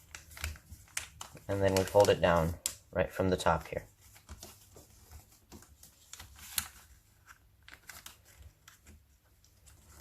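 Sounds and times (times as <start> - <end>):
paper folding and crinkling: 0.0 - 10.0.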